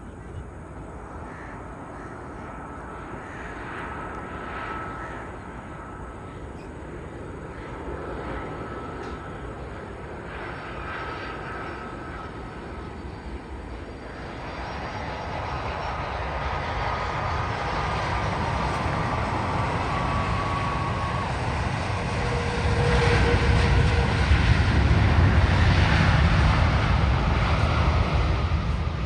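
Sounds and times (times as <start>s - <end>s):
jet engines rumbling on landing: 0.0s - 29.0s.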